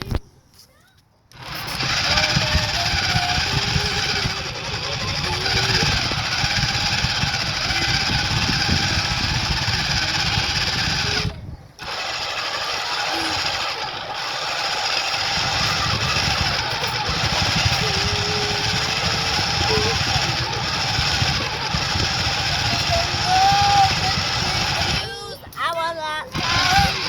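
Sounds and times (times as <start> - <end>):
toy car rattling and rumbling: 1.3 - 27.0.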